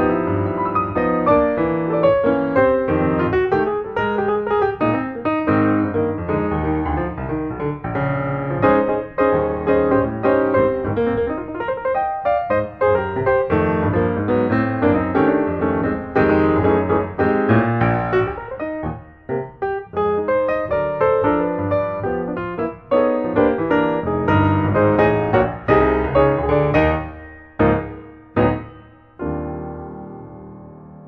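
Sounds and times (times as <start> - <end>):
fast piano music: 0.0 - 31.0.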